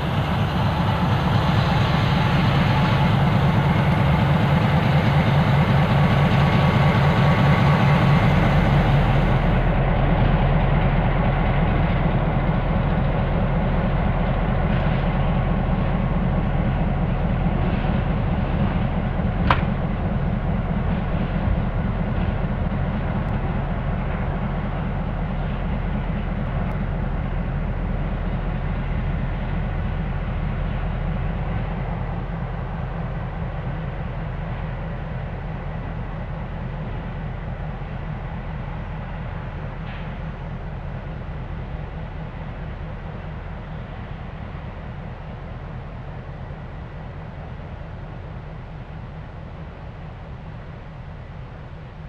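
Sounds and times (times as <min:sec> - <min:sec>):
diesel locomotive droning: 0:00.0 - 0:52.0.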